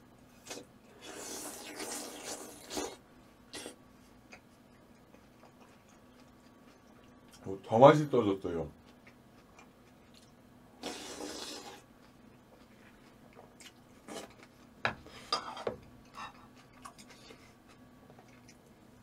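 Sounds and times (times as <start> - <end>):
person eating: 0.3 - 7.4, 8.8 - 19.0.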